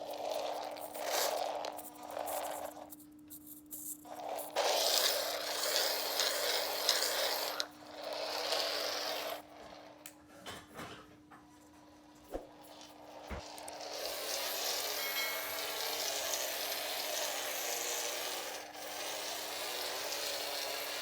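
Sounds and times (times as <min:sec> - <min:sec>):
dry rasping mechanical noise: 0:00.0 - 0:10.2, 0:12.6 - 0:21.0.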